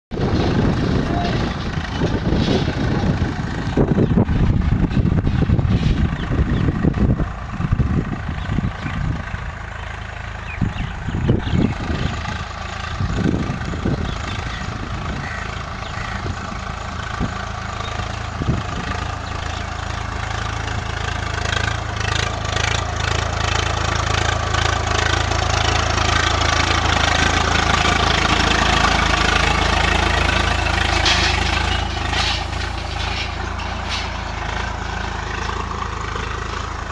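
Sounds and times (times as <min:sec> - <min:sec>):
tractor diesel engine under load: 0:00.1 - 0:36.9.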